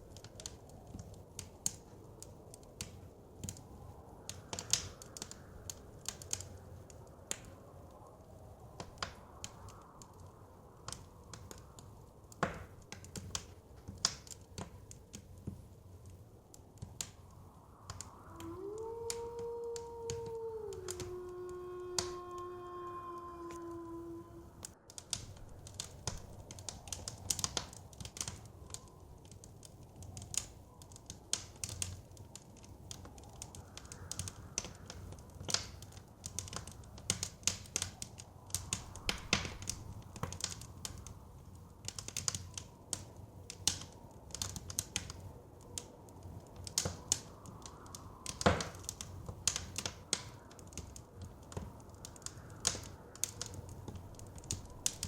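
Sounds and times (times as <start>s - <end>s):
low wind rumble: 0.0s - 55.0s
wood fire crackling and popping: 0.0s - 55.0s.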